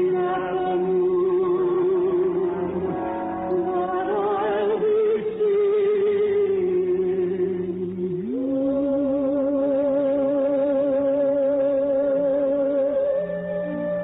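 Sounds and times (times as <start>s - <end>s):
slow ballad music on old radio: 0.0s - 14.0s.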